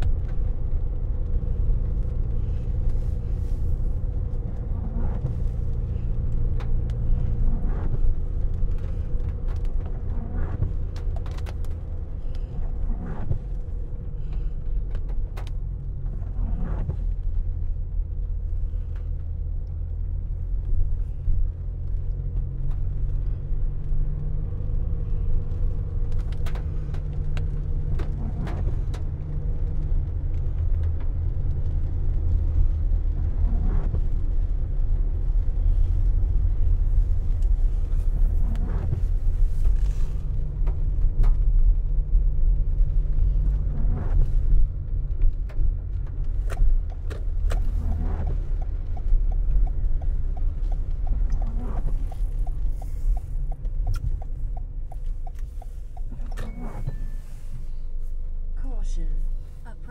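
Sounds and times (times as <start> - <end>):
car driving on a wet road: 0.0 - 59.9.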